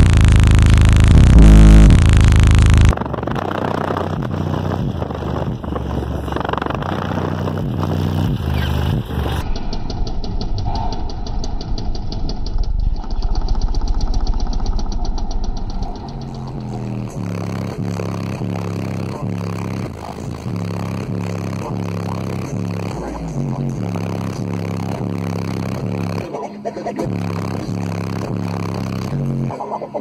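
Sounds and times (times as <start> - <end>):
distorted subwoofer bass: 0.0 - 29.8.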